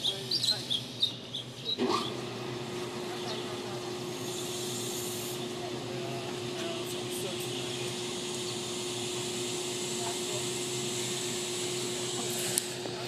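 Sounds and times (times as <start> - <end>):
train machinery hum and hiss: 0.0 - 13.0
train rising whine: 0.0 - 13.0.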